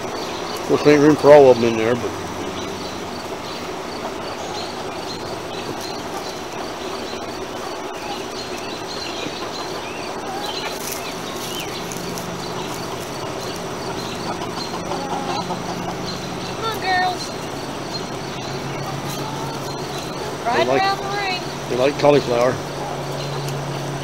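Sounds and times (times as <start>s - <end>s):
exhaust fan humming: 0.0s - 24.0s
hens calling: 0.0s - 24.0s
high insect chirp: 0.0s - 24.0s.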